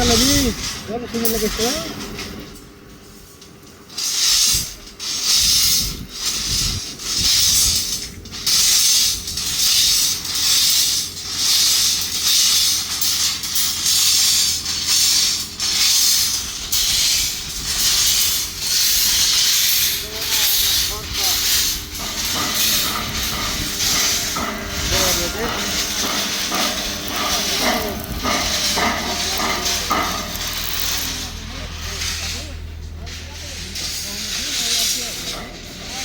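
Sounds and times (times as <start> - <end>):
rhythmic loud hissing: 0.0 - 2.6, 3.9 - 36.0.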